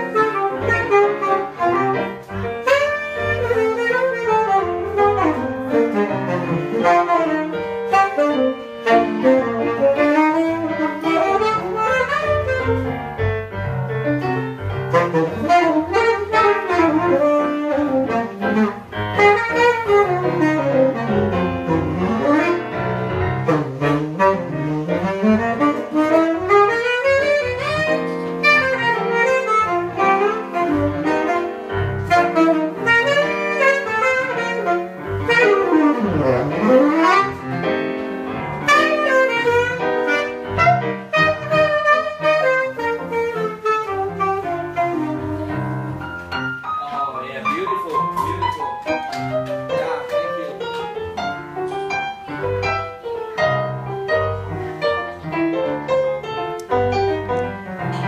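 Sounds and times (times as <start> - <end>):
piano accompaniment: 0.0 - 58.0.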